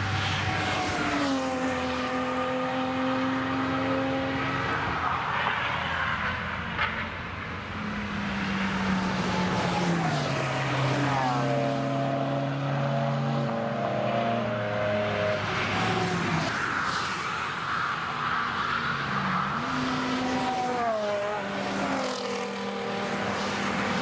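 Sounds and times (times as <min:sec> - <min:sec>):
race cars passing: 0:00.0 - 0:24.0.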